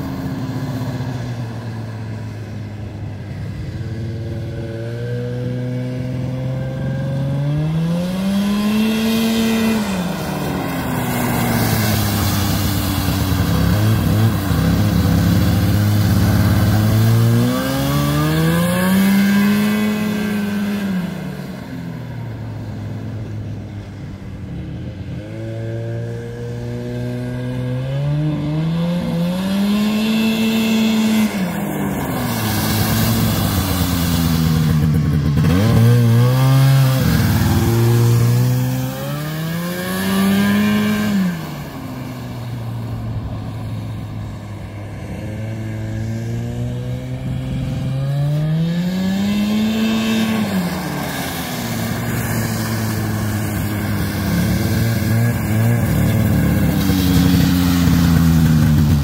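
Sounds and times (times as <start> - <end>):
snowmobile engine revving: 3.4 - 23.3, 25.3 - 59.0.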